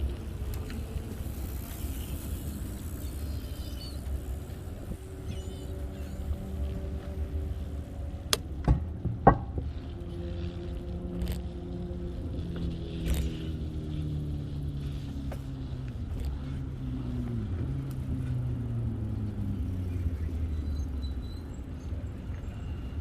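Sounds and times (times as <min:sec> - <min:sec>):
vehicle engine hum: 0:00.0 - 0:23.0.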